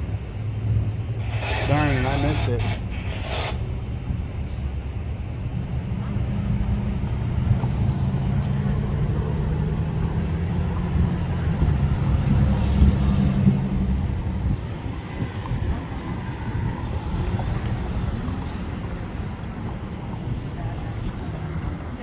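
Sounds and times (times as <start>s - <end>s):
street traffic noise: 0.0s - 22.0s
vehicle engine humming: 0.0s - 22.0s.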